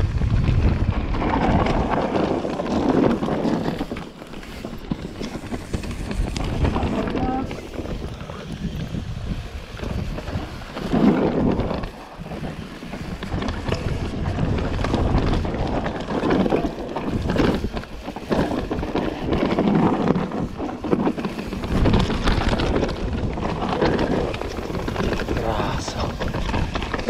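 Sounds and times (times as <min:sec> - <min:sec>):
bike rattling over roots: 0:00.0 - 0:27.0
tyres on loose dirt: 0:00.0 - 0:27.0
wind rushing over microphone: 0:00.0 - 0:27.0.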